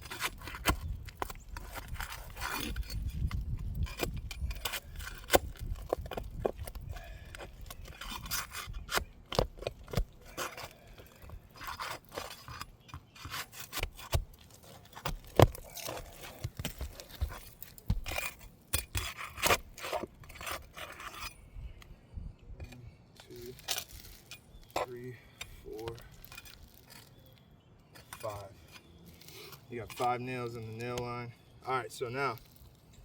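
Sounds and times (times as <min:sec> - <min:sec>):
tool scraping shingles: 0:00.0 - 0:21.6, 0:22.6 - 0:33.0.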